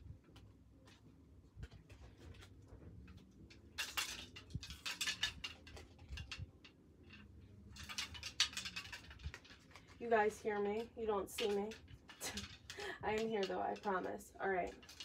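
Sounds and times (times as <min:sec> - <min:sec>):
rustling and clicking of handling: 0:00.0 - 0:15.0.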